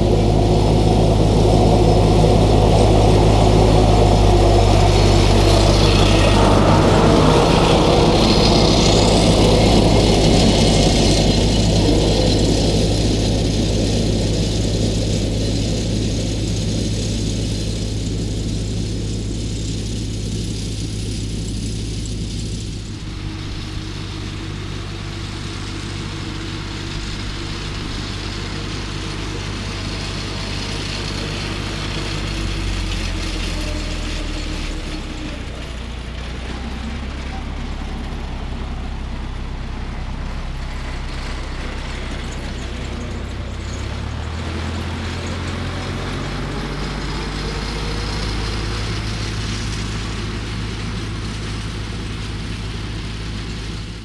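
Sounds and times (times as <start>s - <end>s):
mower cutting grass: 0.0s - 54.0s
tractor engine running: 0.0s - 54.0s.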